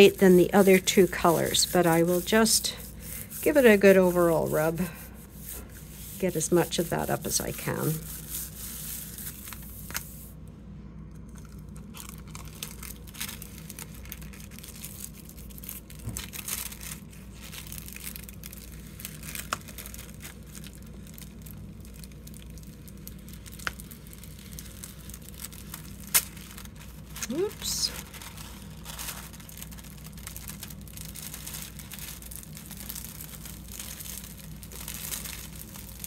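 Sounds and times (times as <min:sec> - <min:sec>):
tissue paper rustling: 0:00.0 - 0:10.4, 0:12.3 - 0:36.0
steady low hum: 0:00.0 - 0:36.0.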